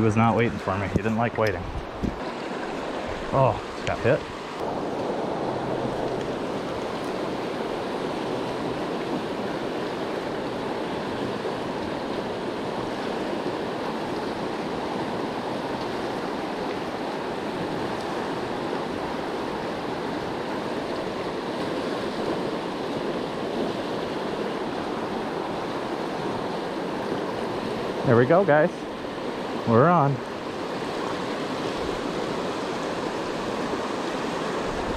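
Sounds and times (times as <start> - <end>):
river rushing: 0.0 - 34.9.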